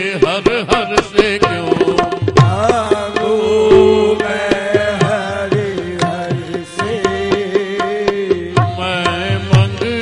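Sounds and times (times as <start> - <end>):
harmonium melody: 0.0 - 10.0
tabla rhythm: 0.0 - 10.0.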